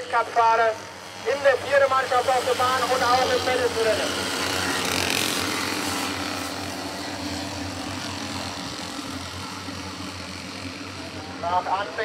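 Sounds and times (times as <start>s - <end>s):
small motorbike engines humming: 0.0s - 12.0s.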